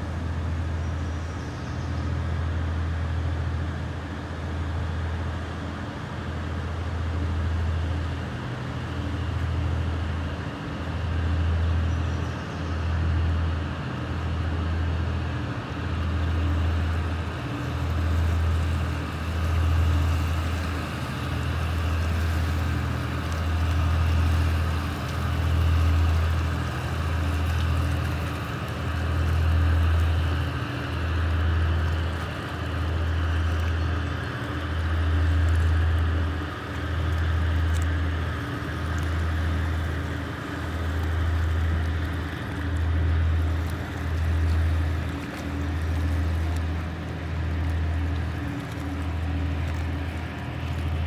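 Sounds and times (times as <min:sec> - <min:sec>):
boat diesel engines humming: 0:00.0 - 0:51.0.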